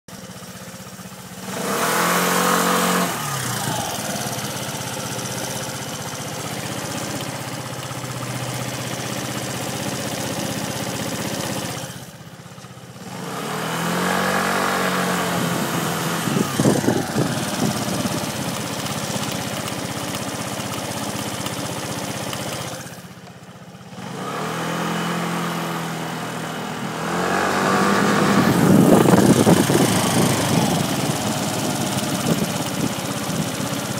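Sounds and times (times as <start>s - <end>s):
abnormal rear wheel noise: 0.1s - 33.9s
scooter engine revving: 0.1s - 33.9s.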